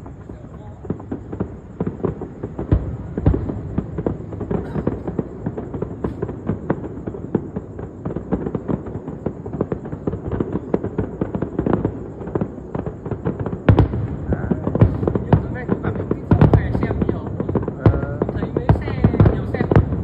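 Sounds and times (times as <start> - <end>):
deep firework bang: 0.0 - 20.0
fireworks crackling: 0.0 - 20.0.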